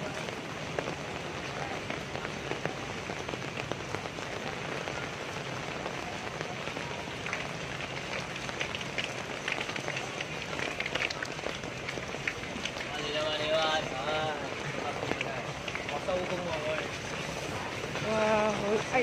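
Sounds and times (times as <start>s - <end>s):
rain falling: 0.0s - 19.0s
sharp rain drop ticks: 0.0s - 19.0s.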